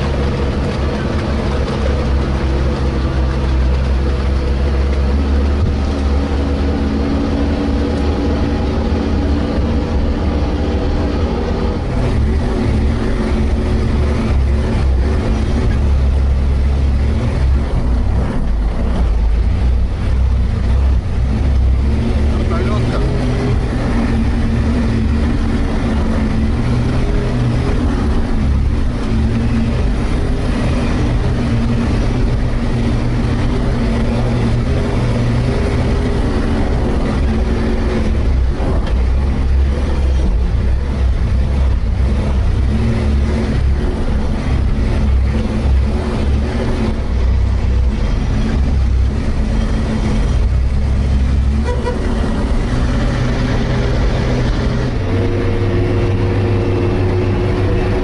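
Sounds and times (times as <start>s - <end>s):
atv engine droning: 0.0s - 58.0s.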